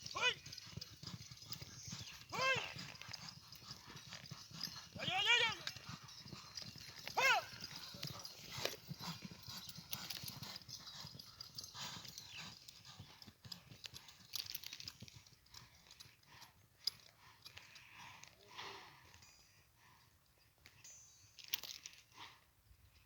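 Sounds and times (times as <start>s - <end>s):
horse hooves on ground: 0.0s - 18.5s.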